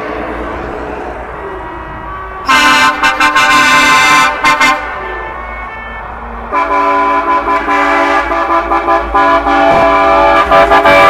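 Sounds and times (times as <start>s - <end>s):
truck air horn blasts: 1.4s - 11.0s.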